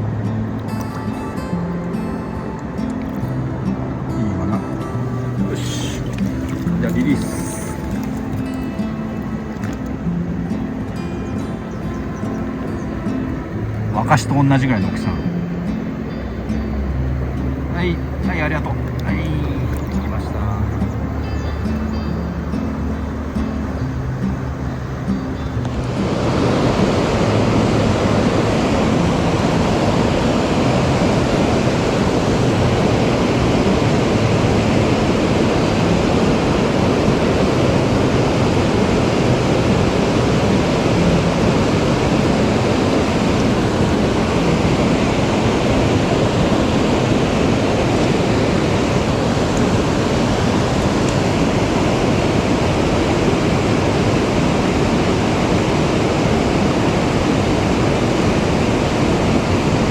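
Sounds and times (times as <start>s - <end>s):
rushing stream water: 0.0s - 59.9s.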